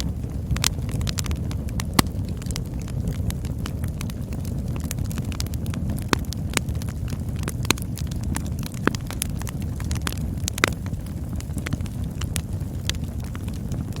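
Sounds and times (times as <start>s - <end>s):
campfire flames rumbling: 0.0s - 14.0s
fire crackles and pops: 0.0s - 14.0s.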